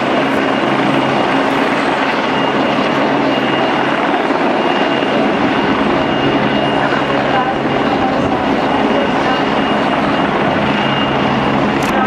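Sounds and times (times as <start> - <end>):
helicopter rotor and engine: 0.0 - 12.0.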